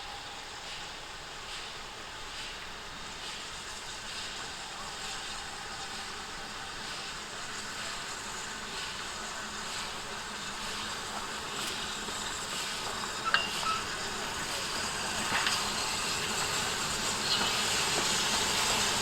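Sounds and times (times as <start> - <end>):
steam locomotive rushing: 0.0 - 19.0.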